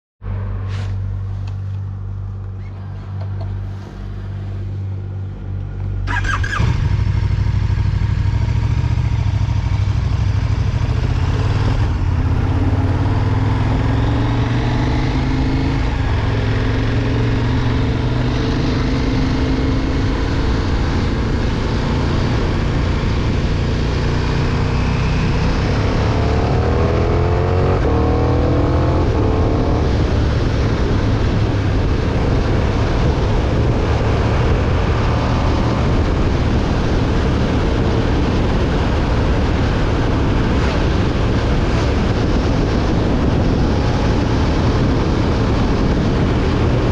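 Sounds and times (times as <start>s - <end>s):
motorcycle engine revving: 6.0s - 46.9s.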